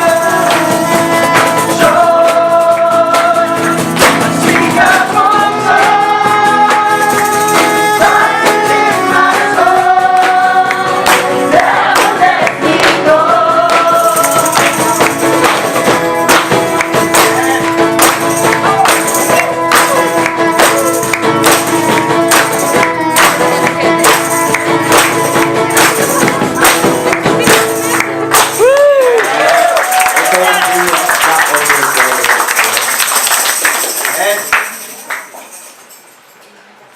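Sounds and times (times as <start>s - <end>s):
voices singing with accompaniment: 0.0s - 29.9s
tambourine beat: 0.0s - 36.3s.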